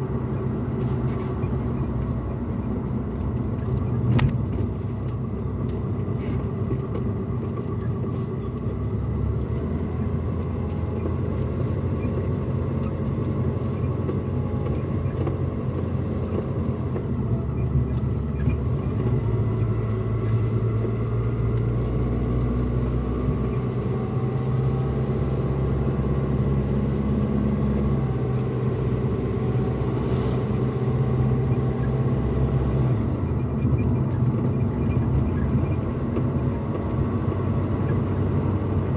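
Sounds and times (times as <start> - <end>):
truck cabin engine and road rumble: 0.0 - 38.9.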